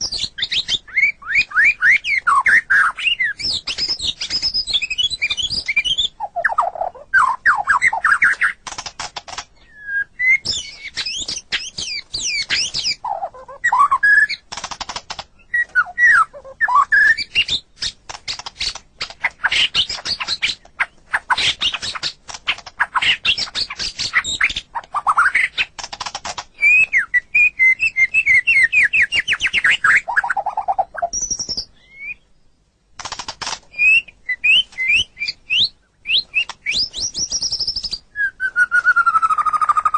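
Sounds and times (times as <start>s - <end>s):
songbird singing whistles and trills: 0.0s - 8.6s, 9.4s - 14.5s, 15.3s - 25.8s, 26.5s - 32.7s, 33.7s - 39.9s.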